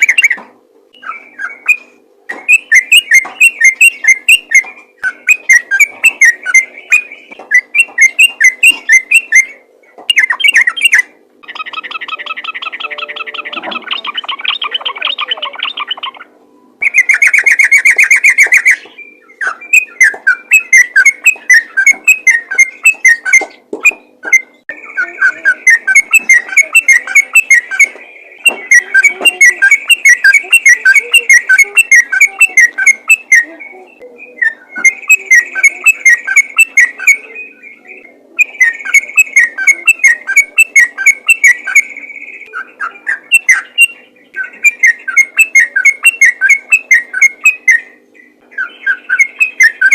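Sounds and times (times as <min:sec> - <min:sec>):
bird singing whistled notes: 0:02.4 - 0:49.9.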